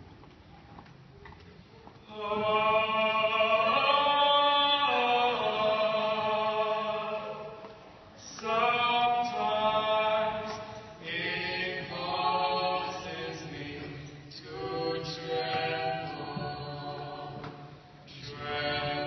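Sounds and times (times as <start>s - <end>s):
person singing long held notes: 2.1s - 19.0s.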